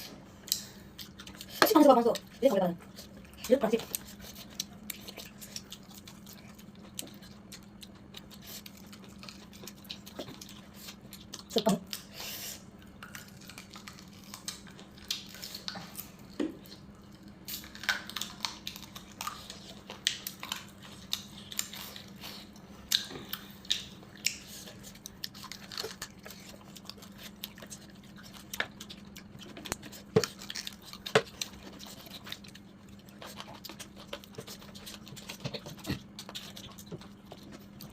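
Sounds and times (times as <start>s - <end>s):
faint steady hum: 0.0s - 37.9s
person chewing food: 0.0s - 37.9s.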